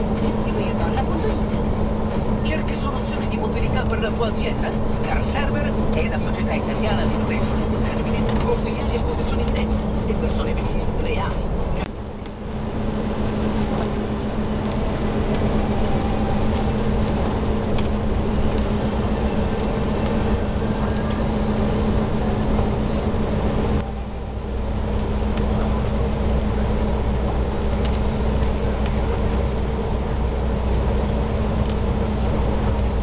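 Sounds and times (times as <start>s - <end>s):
truck engine drone: 0.0s - 33.0s.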